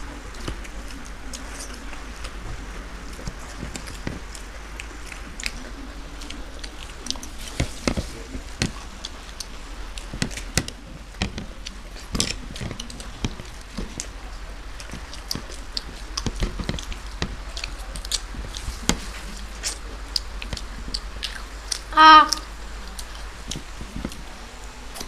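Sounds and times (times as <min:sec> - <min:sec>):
crunching and chewing pastry: 0:00.0 - 0:25.0.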